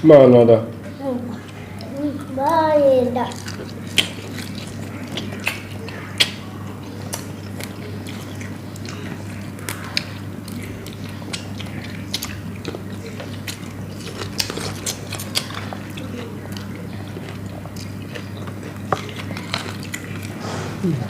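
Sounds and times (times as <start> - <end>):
steady low hum: 0.0 - 21.0
people biting and chewing: 3.2 - 21.0.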